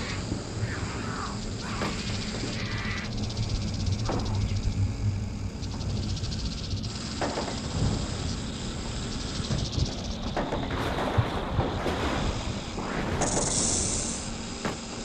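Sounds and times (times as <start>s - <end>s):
noisy haze: 0.0s - 15.0s.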